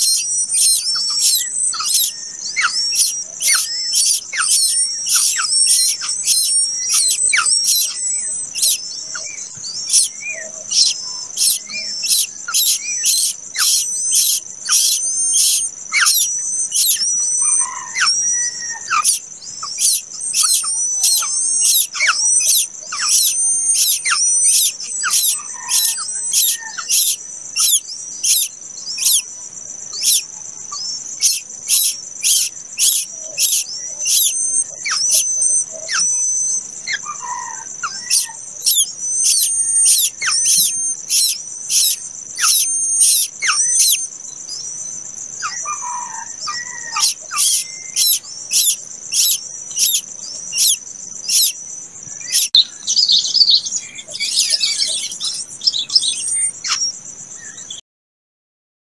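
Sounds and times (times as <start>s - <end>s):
high-pitched insect drone: 0.0s - 57.8s
nestlings chirping: 0.0s - 57.8s.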